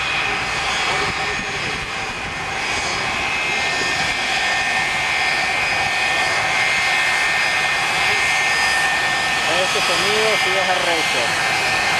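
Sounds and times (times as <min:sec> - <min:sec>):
jet engine roar with whine: 0:00.0 - 0:11.9.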